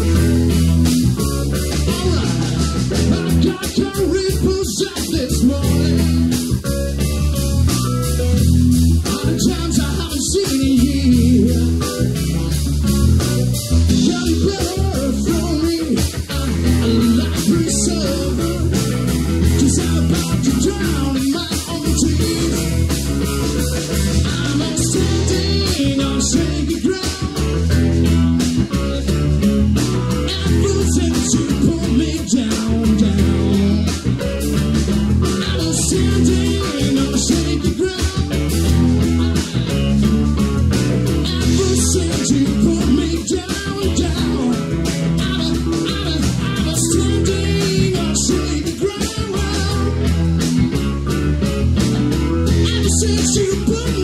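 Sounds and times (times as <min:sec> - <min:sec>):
live blues rock band: 0:00.0 - 0:54.0
steady drum beat: 0:00.0 - 0:54.0.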